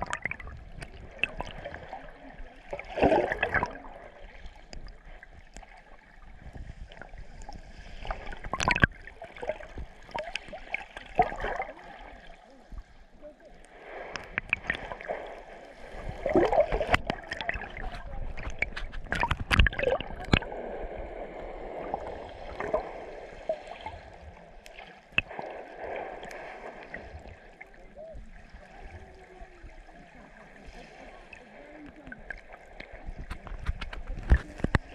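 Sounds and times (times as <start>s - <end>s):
seawater sloshing and gurgling: 0.0s - 34.9s.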